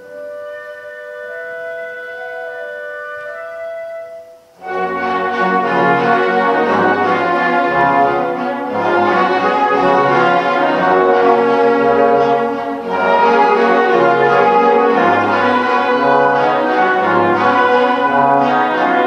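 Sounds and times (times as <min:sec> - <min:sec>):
orchestra playing classical music: 0:00.0 - 0:19.0.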